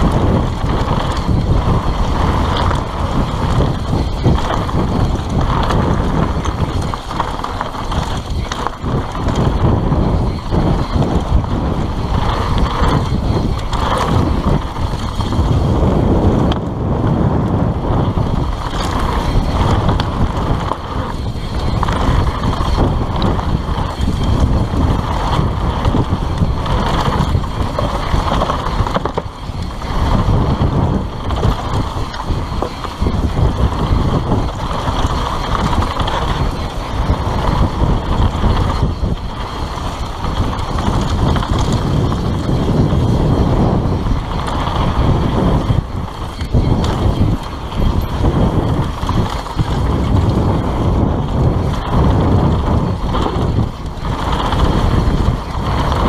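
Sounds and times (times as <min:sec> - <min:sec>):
bike rattling over trail: 0:00.0 - 0:56.0
wind buffeting microphone: 0:00.0 - 0:56.0.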